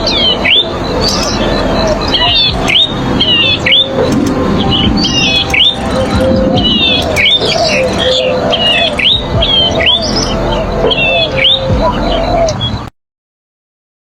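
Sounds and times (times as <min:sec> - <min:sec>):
warbler chirping: 0:00.0 - 0:12.9.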